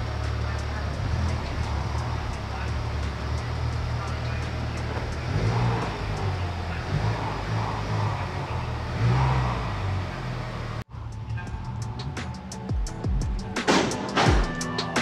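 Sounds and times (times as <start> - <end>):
car engine idling with throttle blips: 0.0 - 14.0.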